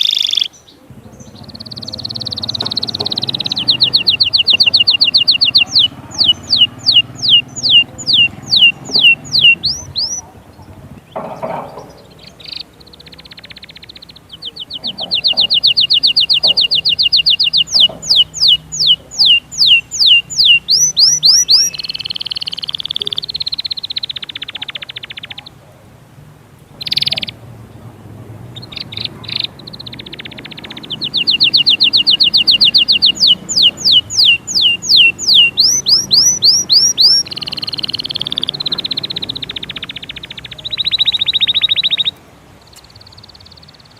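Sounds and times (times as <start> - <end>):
goldfinch singing: 0.0 - 25.8, 26.6 - 43.9.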